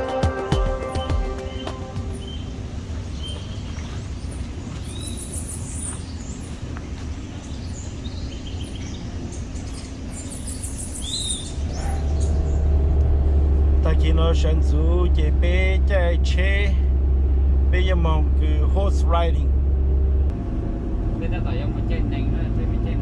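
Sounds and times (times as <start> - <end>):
birds chirping: 0.0 - 20.3
steady low rumble: 0.6 - 23.0.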